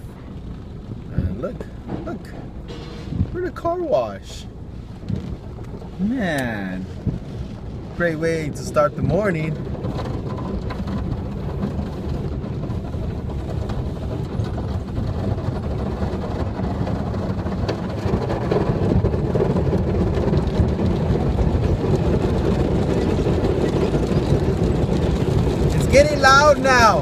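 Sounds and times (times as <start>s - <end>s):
car wash brushes rumbling: 0.0s - 27.0s.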